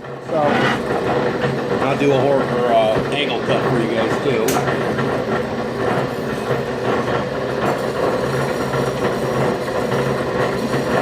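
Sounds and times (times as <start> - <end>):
bandsaw motor hum: 0.0 - 11.0.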